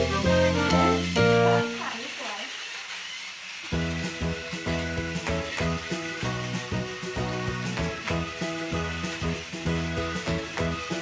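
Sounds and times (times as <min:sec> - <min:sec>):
background music with beat: 0:00.0 - 0:01.6, 0:03.8 - 0:11.0.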